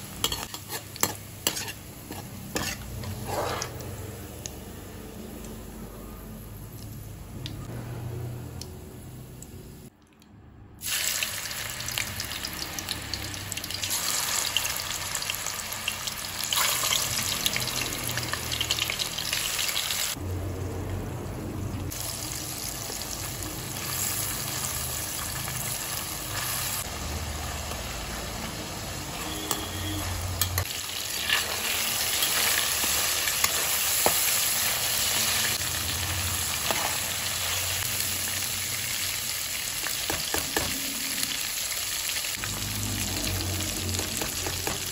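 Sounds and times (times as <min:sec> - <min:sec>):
prawns sizzling in hot oil: 0:00.0 - 0:05.6, 0:10.8 - 0:20.2, 0:21.9 - 0:44.9.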